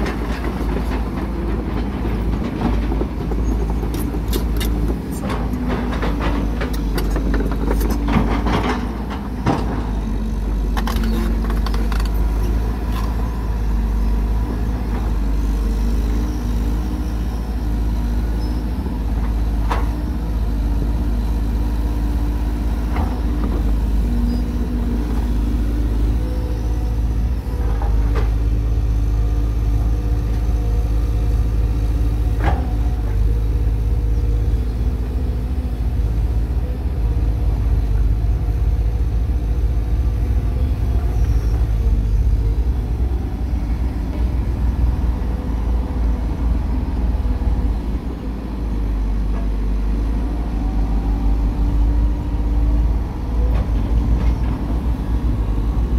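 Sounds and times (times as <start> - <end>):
diesel engine rumbling: 0.0 - 55.9.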